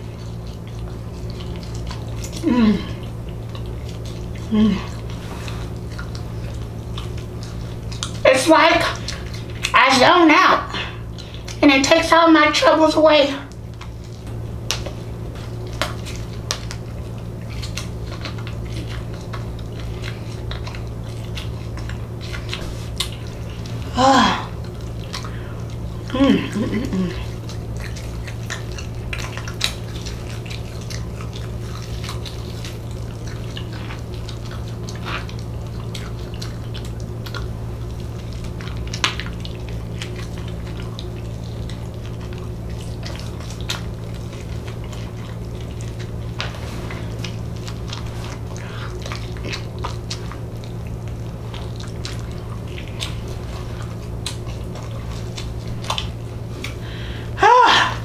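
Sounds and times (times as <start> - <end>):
close-miked chewing: 0.0 - 58.0
steady low hum: 0.0 - 58.0.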